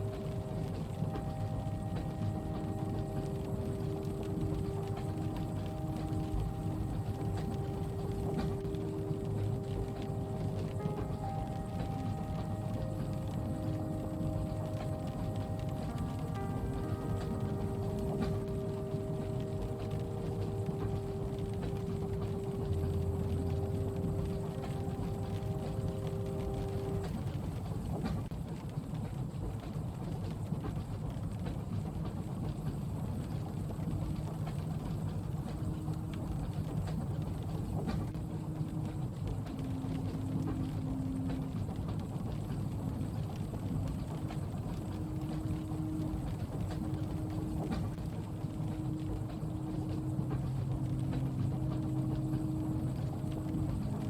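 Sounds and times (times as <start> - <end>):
low hum: 0.0 - 28.0, 33.7 - 54.0
soft rain: 0.0 - 54.0
train rumble: 0.0 - 54.0.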